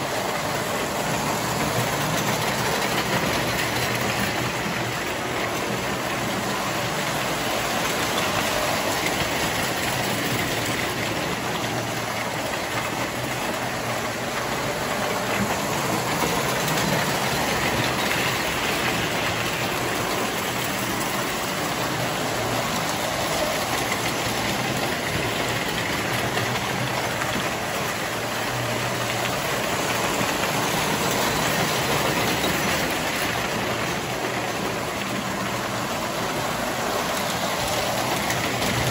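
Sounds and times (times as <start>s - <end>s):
model trains rumbling on rails: 0.0s - 38.9s.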